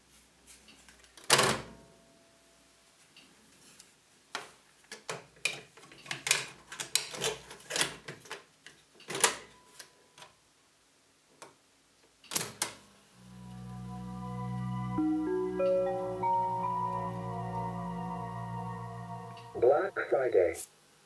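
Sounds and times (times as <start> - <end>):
low steady playback tones: 0.0 - 21.0.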